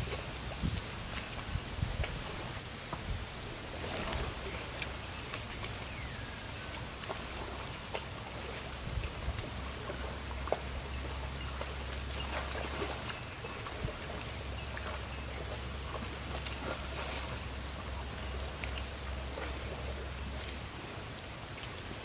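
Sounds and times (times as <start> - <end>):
thin high whine: 0.0 - 22.0.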